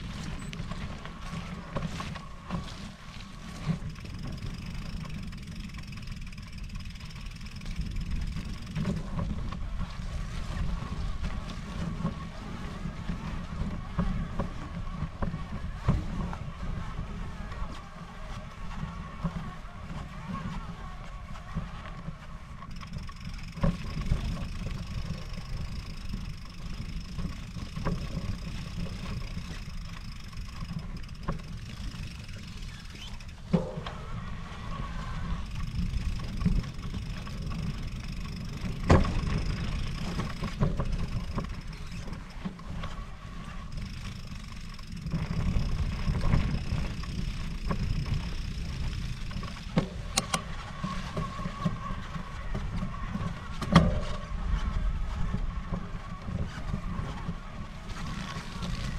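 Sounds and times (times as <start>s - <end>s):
bike knocking and rattling: 0.0s - 58.9s
wind rumbling on microphone: 0.0s - 58.9s.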